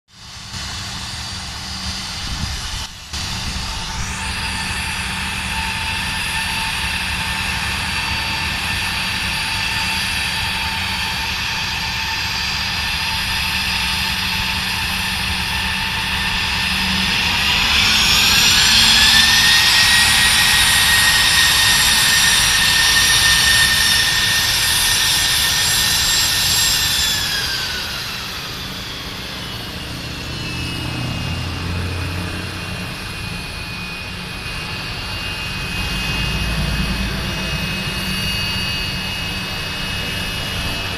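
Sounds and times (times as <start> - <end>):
aircraft turbine engine whine: 0.1 - 40.9.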